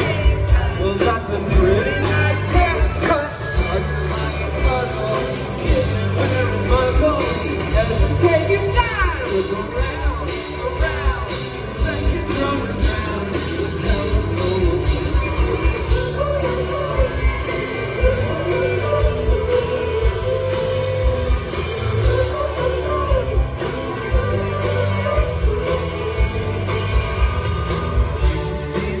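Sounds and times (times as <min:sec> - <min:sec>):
man singing: 0:00.0 - 0:27.4, 0:28.2 - 0:29.0
drums with steady kick: 0:00.0 - 0:29.0
electric guitars: 0:00.0 - 0:29.0.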